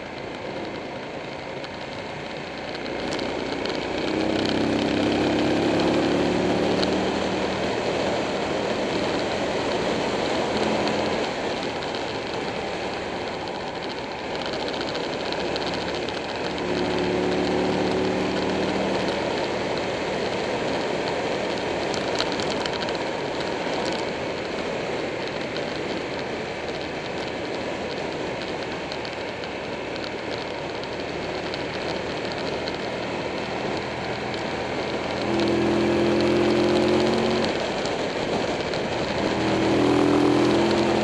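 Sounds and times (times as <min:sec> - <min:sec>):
motorcycle engine: 0:00.0 - 0:41.0
wind noise on microphone: 0:00.0 - 0:41.0.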